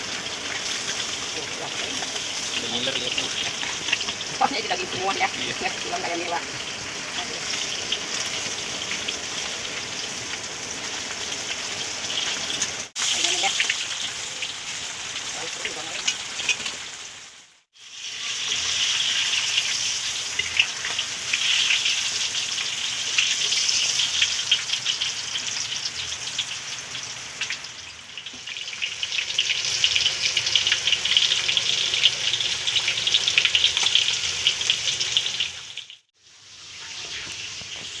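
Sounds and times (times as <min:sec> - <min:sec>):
fish frying in hot oil: 0:00.0 - 0:38.0.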